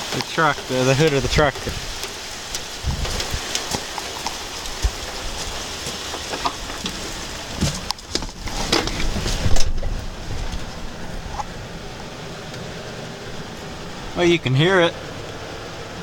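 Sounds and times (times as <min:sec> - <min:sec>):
heavy rain on a truck hood: 0:00.0 - 0:16.0.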